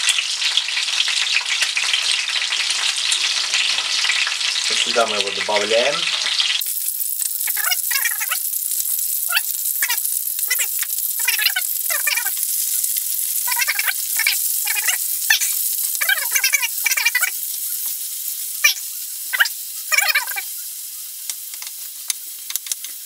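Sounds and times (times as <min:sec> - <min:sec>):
meat and onion sizzling in a pan: 0:00.0 - 0:23.0.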